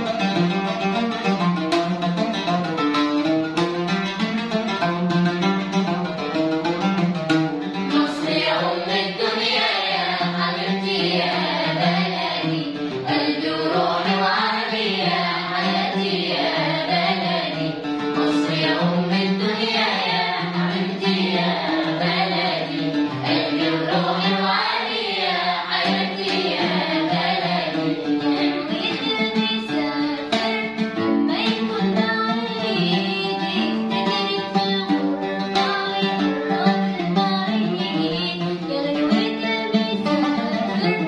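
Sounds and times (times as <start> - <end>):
oud playing: 0.0 - 41.0
children's choir singing: 7.9 - 41.0.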